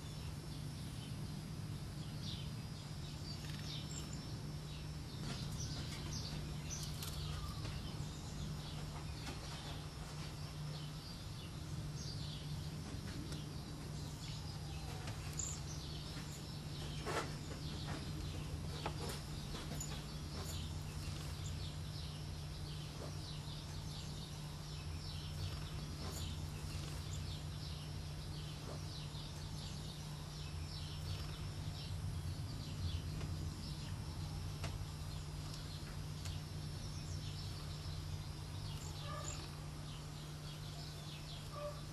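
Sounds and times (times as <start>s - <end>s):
steady low hum: 0.0s - 41.9s
birds high-pitched calls: 2.1s - 41.9s.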